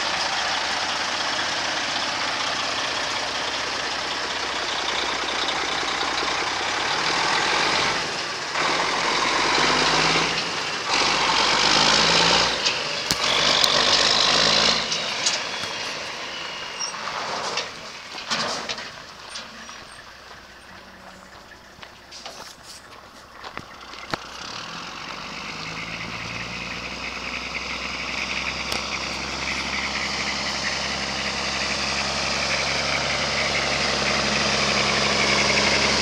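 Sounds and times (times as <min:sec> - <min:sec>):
truck diesel engine accelerating: 0:00.0 - 0:36.0.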